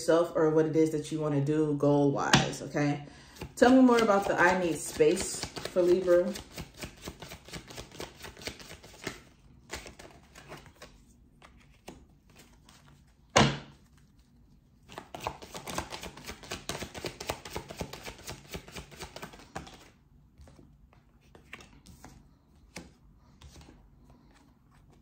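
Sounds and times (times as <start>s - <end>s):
cards shuffling: 3.4s - 25.0s.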